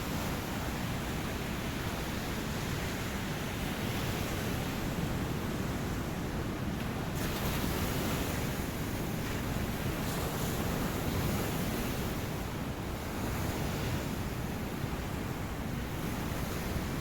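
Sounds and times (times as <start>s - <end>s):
ocean waves washing onto beach: 0.0s - 17.0s.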